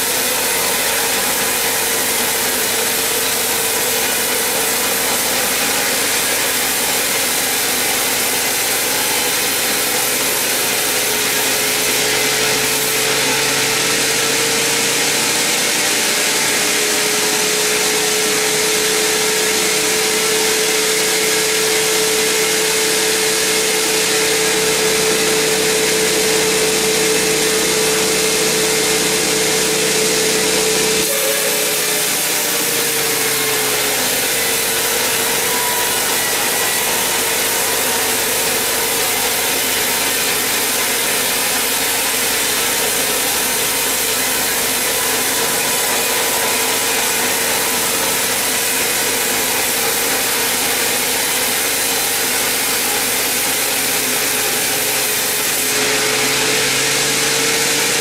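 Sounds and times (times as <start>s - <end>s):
band saw ripping through log: 0.0s - 58.0s.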